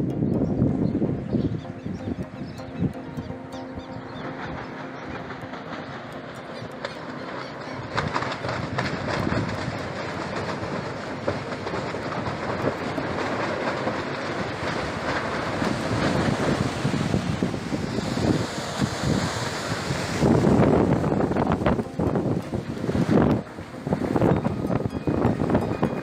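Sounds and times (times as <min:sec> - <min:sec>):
strong wind on microphone: 0:00.0 - 0:03.3, 0:07.6 - 0:26.0.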